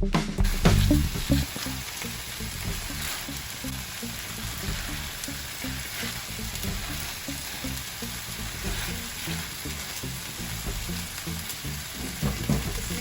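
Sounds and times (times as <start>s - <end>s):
soft background music: 0.0s - 13.0s
food sizzling in a pan: 0.4s - 13.0s.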